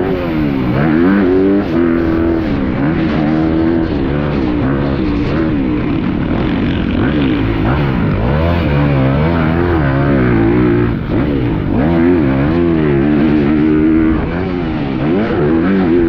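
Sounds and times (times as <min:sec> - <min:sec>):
motocross engine revving: 0:00.0 - 0:16.0.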